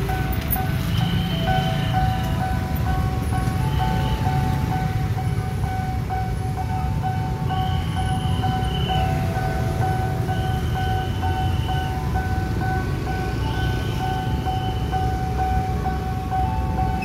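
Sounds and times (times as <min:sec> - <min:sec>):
motorcycles idling: 0:00.0 - 0:17.0
traffic rumble: 0:00.0 - 0:17.0.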